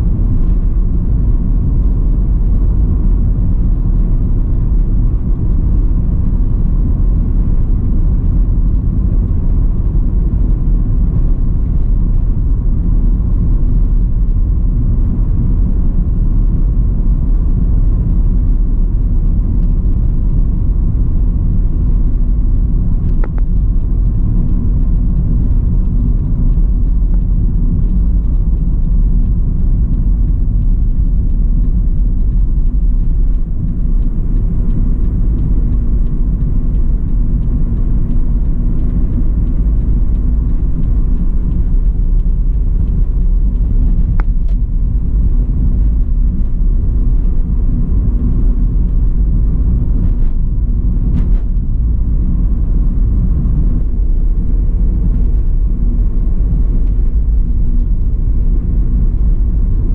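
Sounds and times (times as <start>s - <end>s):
car interior road and engine noise: 0.0s - 59.9s.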